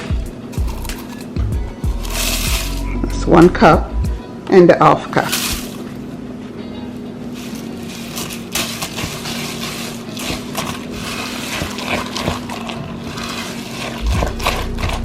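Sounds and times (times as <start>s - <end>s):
batter squishing and scraping: 0.0s - 3.7s, 5.1s - 6.1s, 7.2s - 15.0s.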